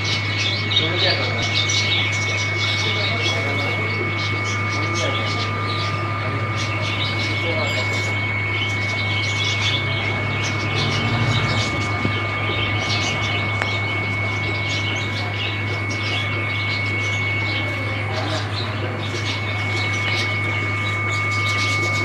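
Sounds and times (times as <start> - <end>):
aquarium air pump humming: 0.0 - 22.0.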